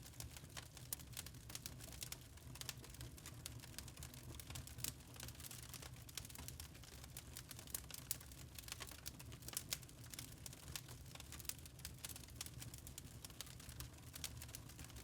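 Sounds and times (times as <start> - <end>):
faint low rumble of flames: 0.0 - 15.0
wood fire popping and snapping: 0.0 - 15.0.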